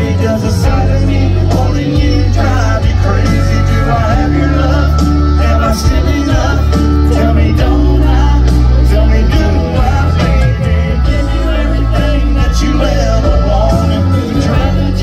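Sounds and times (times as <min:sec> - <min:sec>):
country band playing: 0:00.0 - 0:15.0
heavy bass: 0:00.0 - 0:15.0
man singing: 0:00.0 - 0:15.0.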